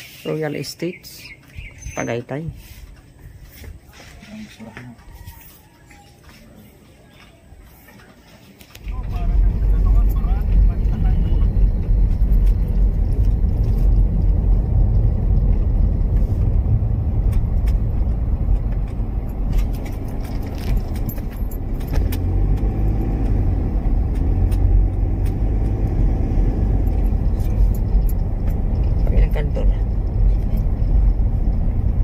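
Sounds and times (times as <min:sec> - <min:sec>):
engine and tyres rumbling: 0:00.0 - 0:32.0.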